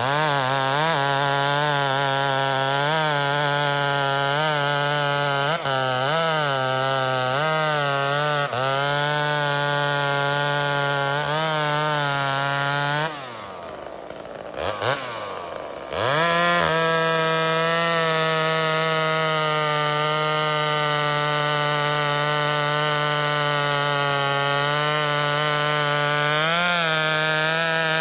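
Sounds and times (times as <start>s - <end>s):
chainsaw cutting log: 0.0s - 28.0s
chainsaw idling: 0.0s - 28.0s.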